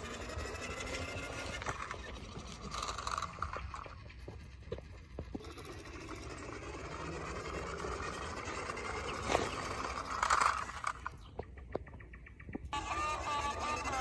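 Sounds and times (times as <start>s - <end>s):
small motor whirring: 0.0s - 11.4s, 12.7s - 14.0s.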